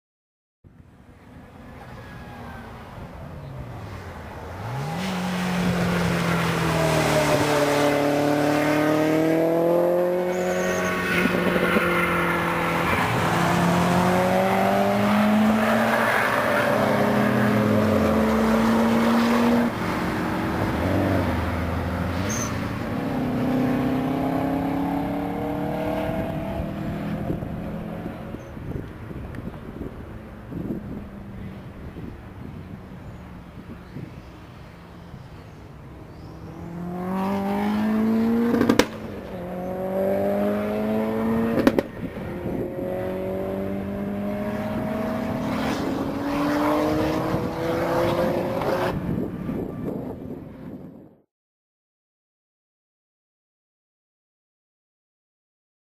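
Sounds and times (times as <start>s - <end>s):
race car engines accelerating: 1.0s - 50.3s.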